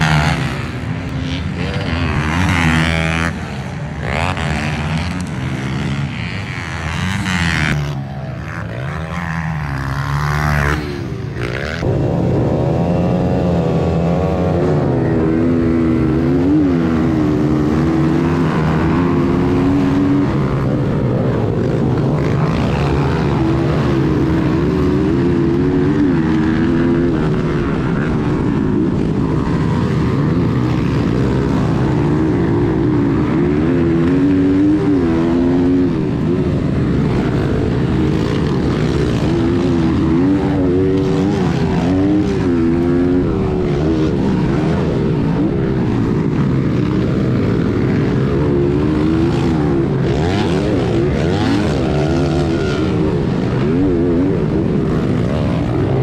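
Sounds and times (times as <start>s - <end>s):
pit bike engine revving: 0.0s - 12.0s, 12.8s - 56.0s
other pit bike engines: 0.0s - 56.0s.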